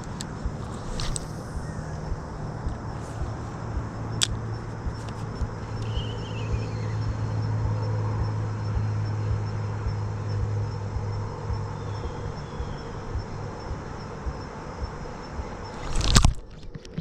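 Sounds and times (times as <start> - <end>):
low mechanical hum: 0.0 - 17.0
low rumbling: 0.0 - 17.0.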